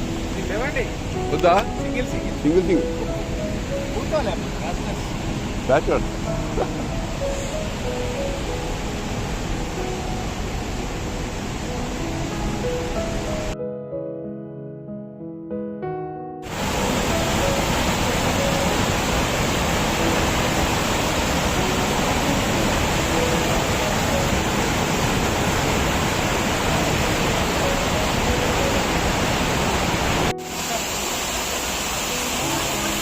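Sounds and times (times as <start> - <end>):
quieter rush of water: 0.0 - 13.6, 16.4 - 33.0
waterfall roaring: 0.0 - 13.6, 16.4 - 33.0.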